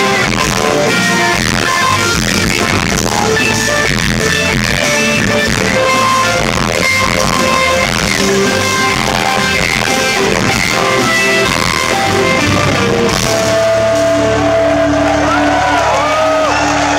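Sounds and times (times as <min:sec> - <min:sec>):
live rock band playing: 0:00.0 - 0:16.9
sliding guitar tones: 0:00.0 - 0:16.9.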